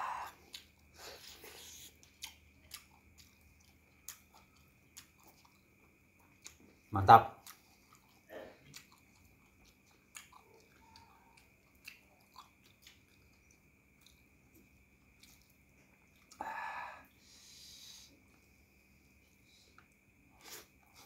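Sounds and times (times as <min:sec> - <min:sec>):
faint chewing and mouth clicks: 0:00.0 - 0:21.0.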